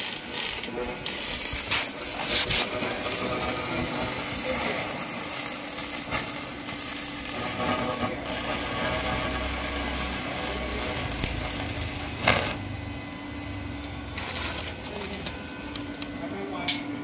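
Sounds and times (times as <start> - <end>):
welding arc crackling: 0.0 - 16.7.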